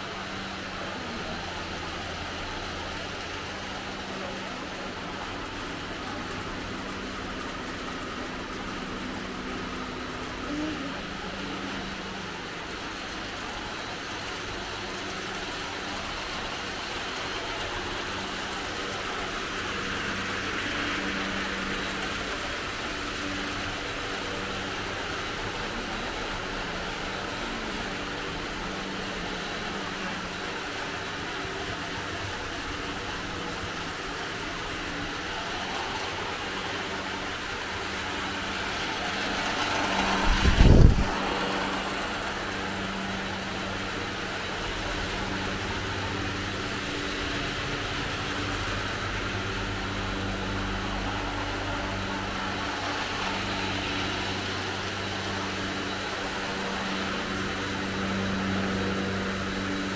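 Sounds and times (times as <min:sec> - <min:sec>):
constant hiss: 0:00.0 - 0:59.9.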